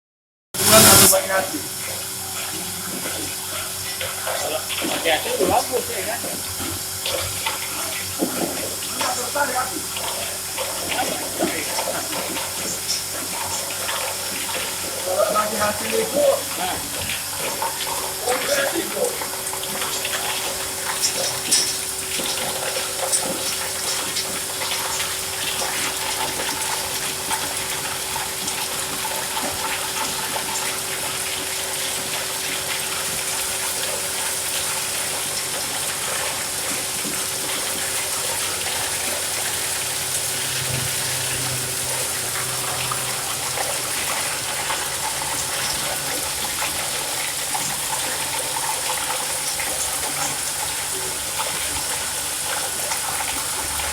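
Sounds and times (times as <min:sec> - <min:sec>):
flowing water rushing: 0:00.6 - 0:53.9
machine hum: 0:00.6 - 0:53.9.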